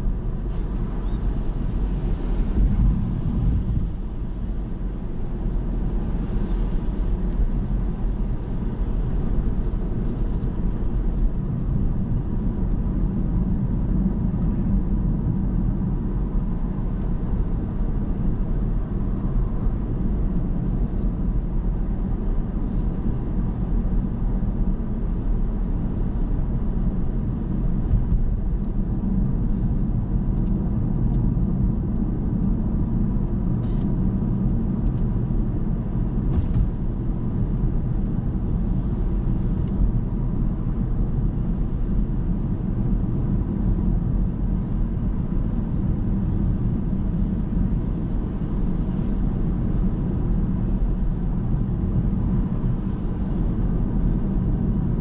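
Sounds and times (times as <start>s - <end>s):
car engine and tyre hum: 0.0s - 55.0s.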